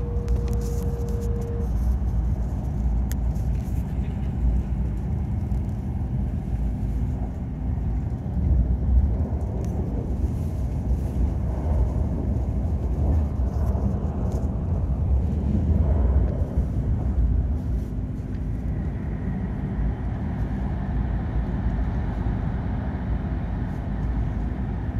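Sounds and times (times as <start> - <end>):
train rumble inside cabin: 0.0 - 24.9.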